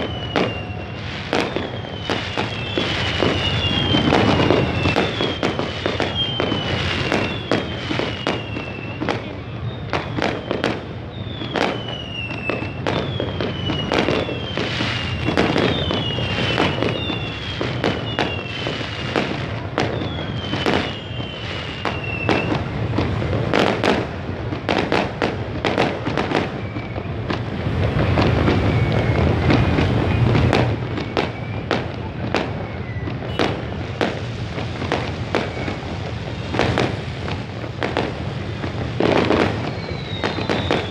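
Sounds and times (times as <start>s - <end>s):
falling whistles: 0.0s - 19.2s, 19.8s - 22.8s, 26.2s - 37.0s, 39.0s - 40.9s
fireworks bangs and crackles: 0.0s - 40.9s
low street din: 0.0s - 40.9s.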